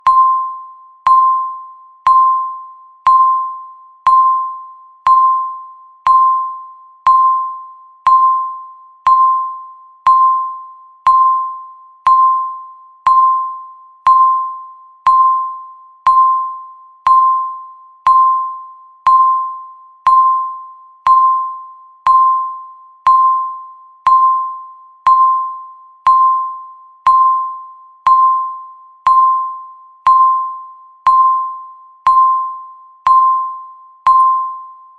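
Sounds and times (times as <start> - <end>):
bell-like timer ding: 0.0 - 34.9.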